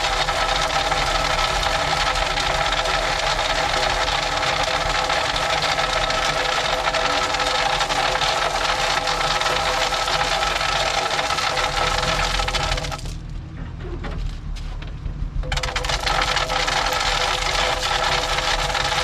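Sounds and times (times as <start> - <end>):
low engine rumble: 0.0 - 19.0
machine engine with fast rattle: 0.0 - 19.0.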